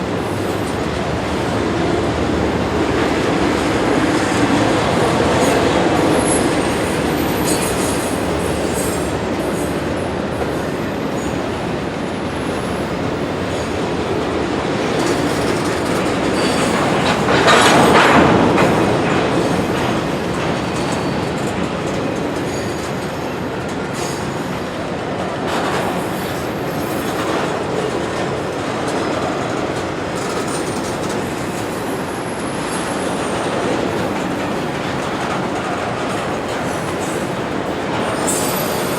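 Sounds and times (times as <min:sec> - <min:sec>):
freight train cars rolling: 0:00.0 - 0:38.9
steel wheels squealing on rail: 0:02.6 - 0:38.9.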